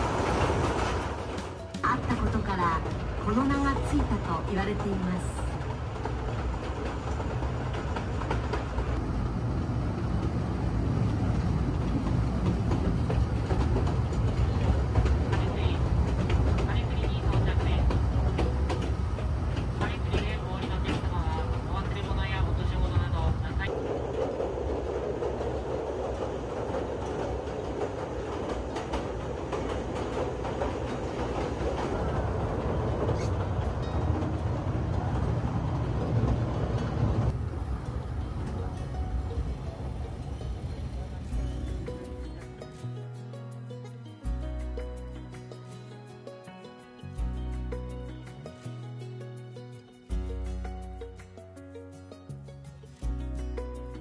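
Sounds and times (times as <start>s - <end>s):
train wheels rumbling on rails: 0.0s - 51.6s.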